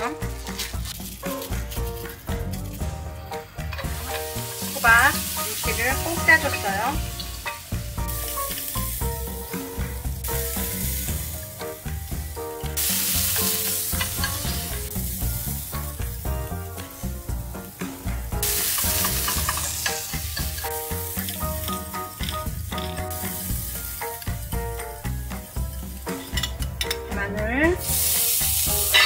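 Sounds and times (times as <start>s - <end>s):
background music: 0.0s - 29.0s
vegetables sizzling in oil: 0.0s - 29.0s.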